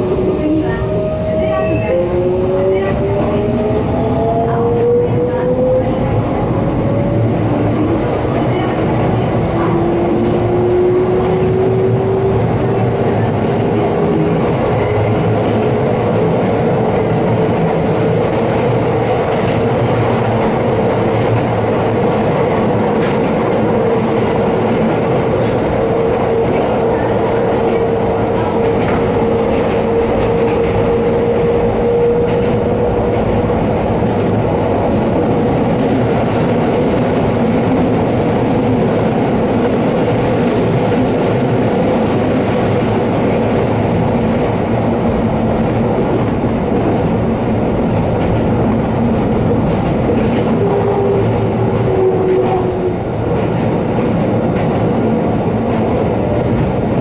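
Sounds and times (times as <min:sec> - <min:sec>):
train wheels on rail: 0:00.0 - 0:57.0.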